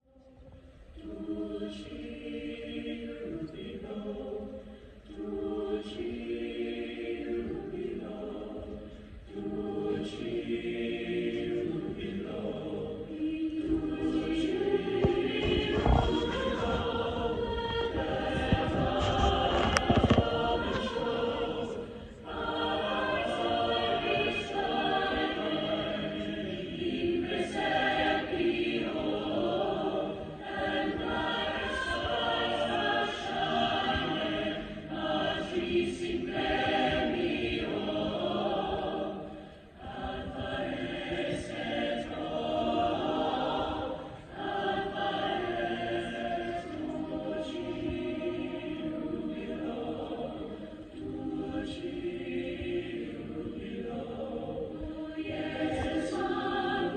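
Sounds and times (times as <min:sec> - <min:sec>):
choir singing: 0:00.8 - 0:56.9.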